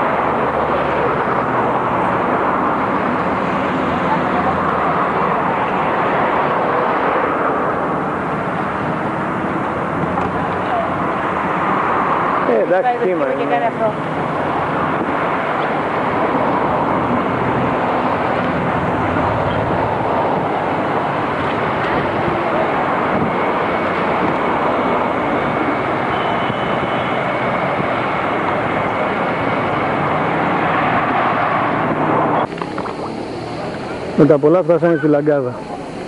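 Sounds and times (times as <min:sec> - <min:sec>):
low engine hum: 0:00.0 - 0:36.0
rushing noise of car driving: 0:00.0 - 0:36.0.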